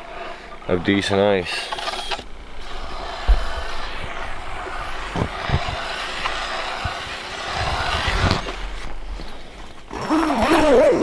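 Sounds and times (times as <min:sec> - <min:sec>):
wavering pitched sound: 0:01.5 - 0:11.0.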